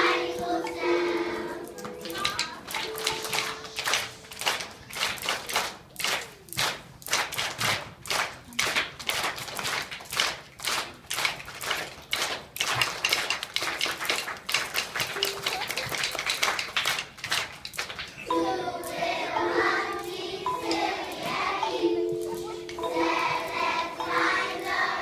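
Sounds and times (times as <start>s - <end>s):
hands clapping: 1.6s - 25.0s.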